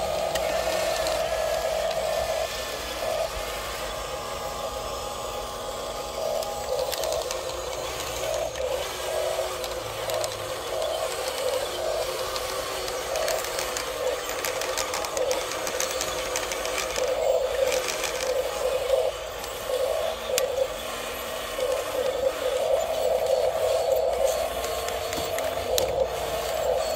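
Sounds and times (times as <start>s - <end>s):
toy excavator motors whirring: 0.0s - 26.9s.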